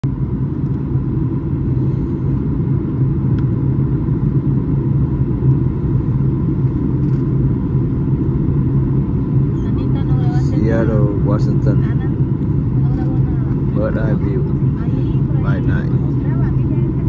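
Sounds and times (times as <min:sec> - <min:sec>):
jet engine drone and rushing air: 0:00.0 - 0:17.0.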